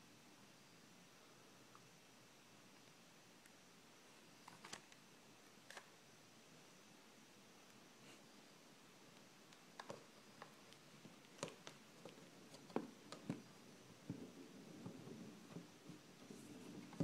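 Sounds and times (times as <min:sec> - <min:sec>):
quiet hiss: 0:00.0 - 0:17.0.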